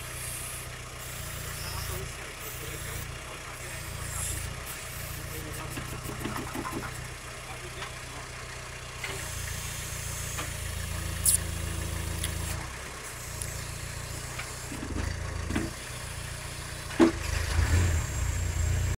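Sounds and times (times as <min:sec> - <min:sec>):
tractor engine under load: 0:00.0 - 0:19.0.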